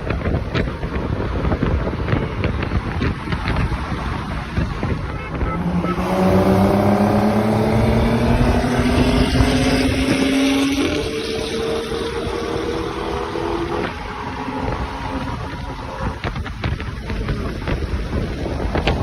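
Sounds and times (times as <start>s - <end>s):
car engine accelerating: 3.0s - 19.0s.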